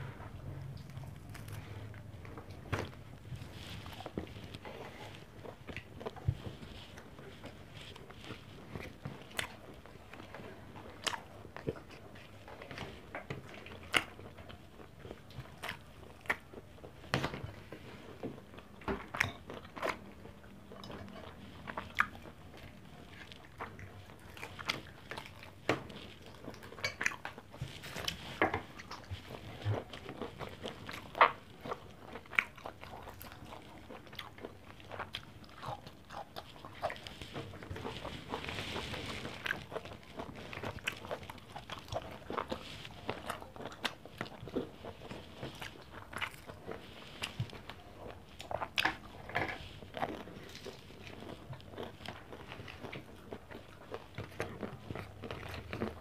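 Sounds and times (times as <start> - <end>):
person chewing with crunches: 0.0 - 56.0.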